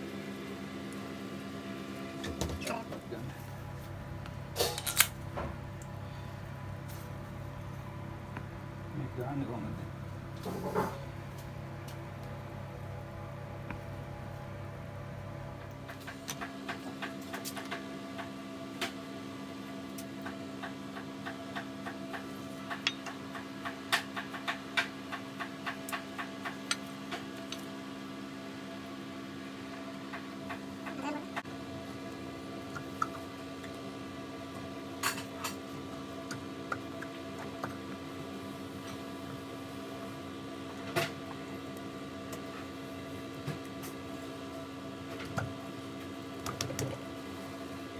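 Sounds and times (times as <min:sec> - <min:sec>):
mechanical hum: 0:00.0 - 0:47.9.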